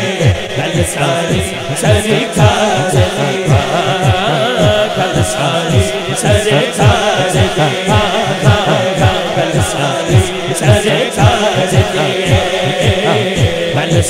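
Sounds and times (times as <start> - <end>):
man singing through loudspeakers: 0.0 - 14.0
steady low beat: 0.0 - 14.0.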